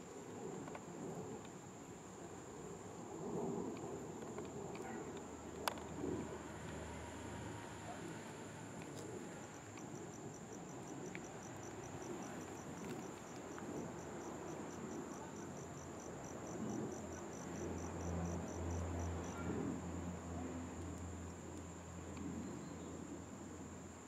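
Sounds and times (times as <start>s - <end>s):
cricket chirping: 0.0s - 24.0s
high insect trill: 0.3s - 24.0s.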